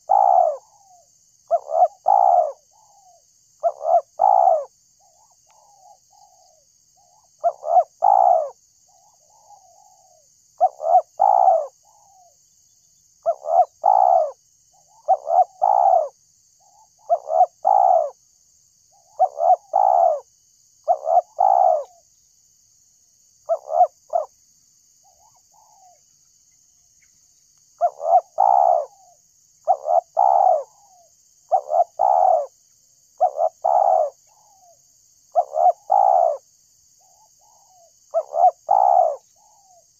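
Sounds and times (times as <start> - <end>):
dove cooing: 0.0 - 12.4, 13.2 - 18.2, 18.9 - 22.0, 23.4 - 24.4, 25.0 - 26.0, 27.8 - 32.6, 33.2 - 36.4, 37.0 - 39.8.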